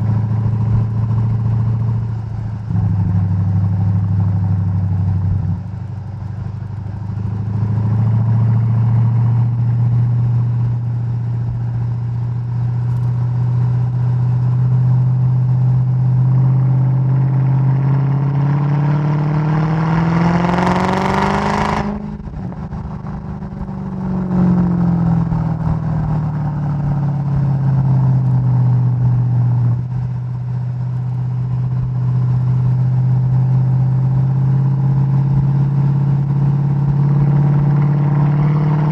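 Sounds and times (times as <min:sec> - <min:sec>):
car engine accelerating: 0:00.0 - 0:38.9
exhaust crackling on overrun: 0:00.0 - 0:38.9.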